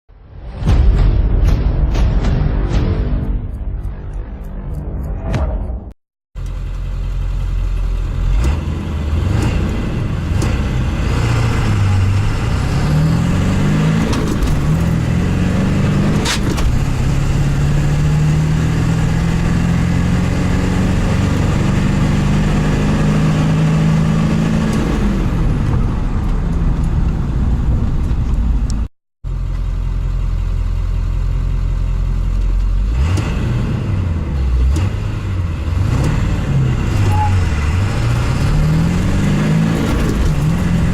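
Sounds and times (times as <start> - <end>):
diesel truck engine accelerating: 3.8 - 40.9.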